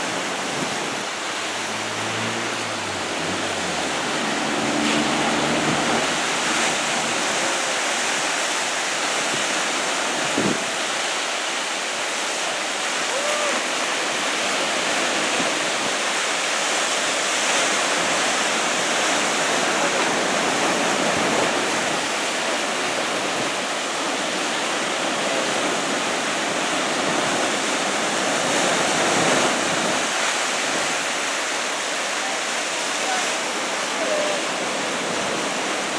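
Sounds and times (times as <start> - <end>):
heavy surf breaking: 0.0 - 35.9.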